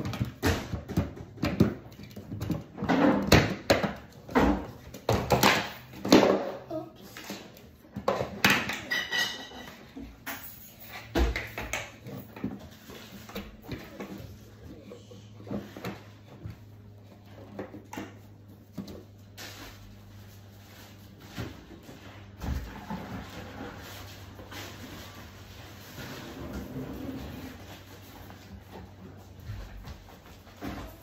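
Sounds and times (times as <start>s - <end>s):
objects knocking and clunking: 0.0s - 31.0s.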